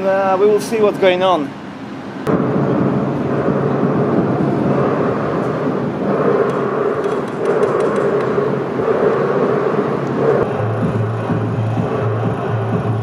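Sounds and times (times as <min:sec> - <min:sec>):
droning electronic noise music: 0:02.3 - 0:13.0.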